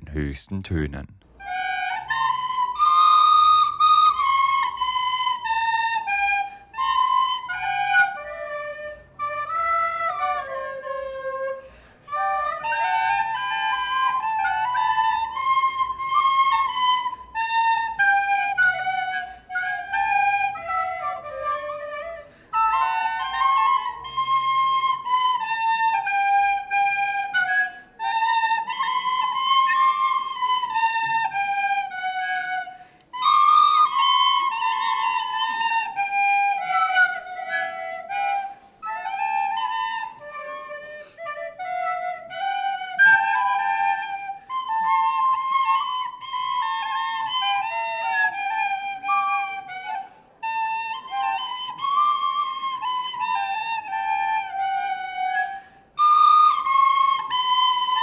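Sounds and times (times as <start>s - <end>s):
flute melody: 1.3s - 58.0s.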